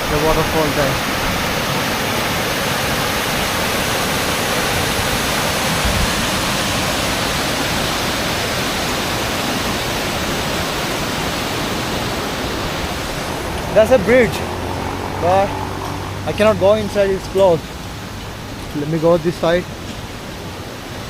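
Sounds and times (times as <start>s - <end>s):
waterfall and river rushing: 0.0s - 21.0s.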